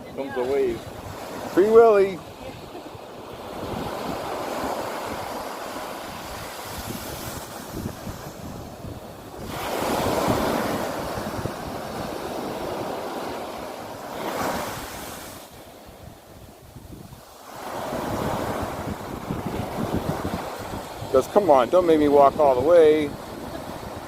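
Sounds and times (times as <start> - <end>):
ocean surf washing up: 0.0 - 24.0
wind buffeting microphone: 0.0 - 24.0.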